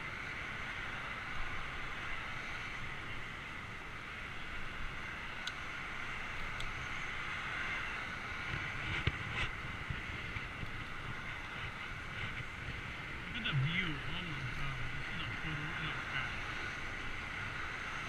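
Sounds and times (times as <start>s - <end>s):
bicycle rolling noise: 0.0s - 18.0s.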